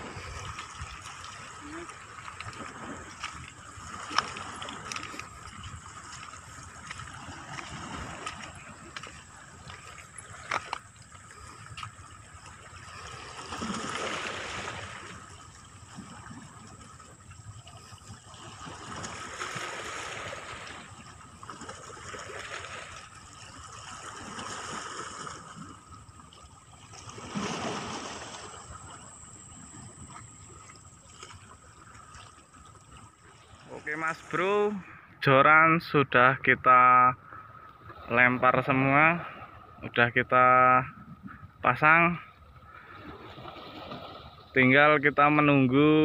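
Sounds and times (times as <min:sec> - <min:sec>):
small waves washing against rocks: 0:00.0 - 0:34.9, 0:42.7 - 0:46.0.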